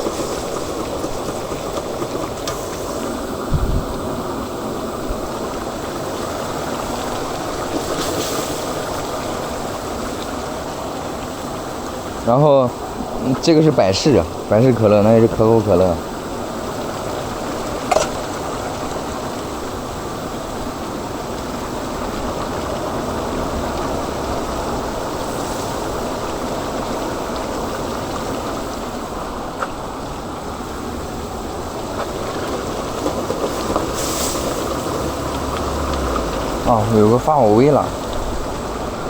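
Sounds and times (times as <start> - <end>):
stew bubbling in pots: 0.0 - 39.0.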